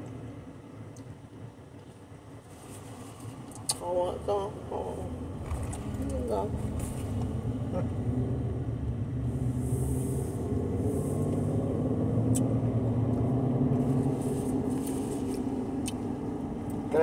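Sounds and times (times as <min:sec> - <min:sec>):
car engine rumble inside cabin: 0:00.0 - 0:17.0.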